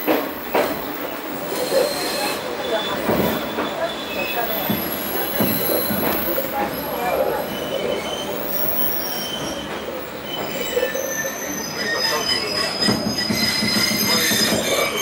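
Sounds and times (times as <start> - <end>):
train running noise: 0.0 - 15.0
wheels squealing on rails: 0.0 - 15.0.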